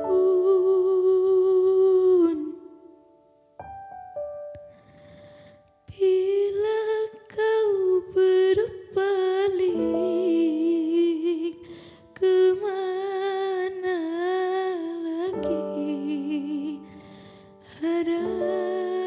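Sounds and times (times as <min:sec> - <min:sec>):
woman singing with vibrato: 0:00.0 - 0:03.1, 0:05.9 - 0:19.0
piano chords: 0:00.0 - 0:05.9, 0:09.1 - 0:19.0.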